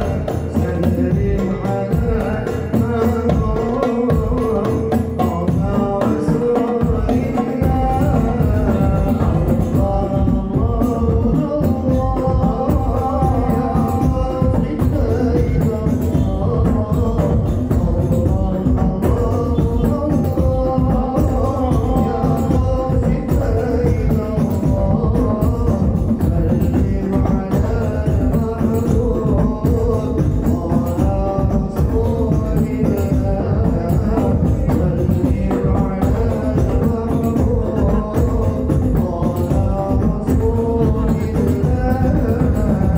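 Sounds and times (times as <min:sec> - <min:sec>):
frame drums and bass drums: 0:00.0 - 0:42.9
person singing: 0:00.0 - 0:42.9.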